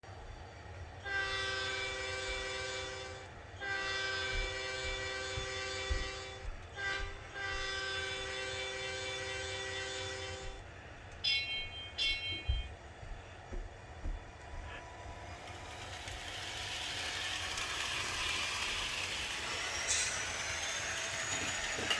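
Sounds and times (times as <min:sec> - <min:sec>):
locomotive chime whistle: 0:01.0 - 0:10.6, 0:11.2 - 0:13.0, 0:15.5 - 0:21.9.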